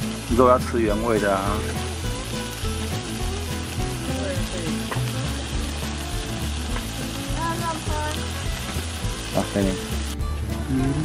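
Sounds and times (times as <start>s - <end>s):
meat sizzling on grill plate: 0.0s - 11.0s.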